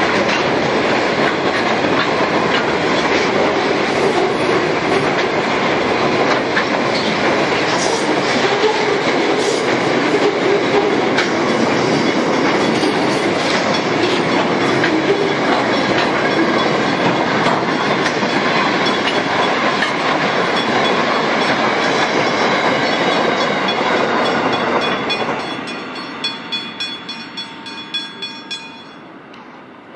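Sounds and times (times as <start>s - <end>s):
freight train wagons rumbling: 0.0s - 29.9s.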